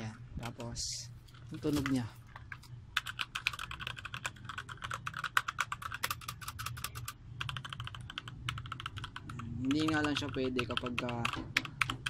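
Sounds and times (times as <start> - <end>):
mechanical keyboard typing: 1.6 - 12.0.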